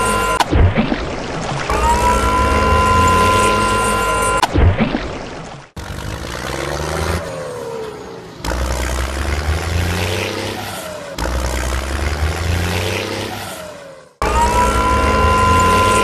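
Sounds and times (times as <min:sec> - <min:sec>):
engine revving: 0:01.7 - 0:04.5, 0:05.8 - 0:16.0.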